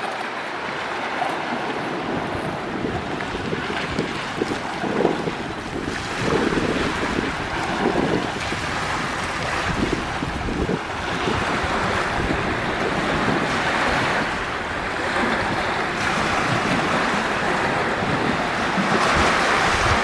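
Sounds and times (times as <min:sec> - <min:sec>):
small waves washing on sand: 0:00.0 - 0:20.0
wind buffeting microphone: 0:00.0 - 0:20.0.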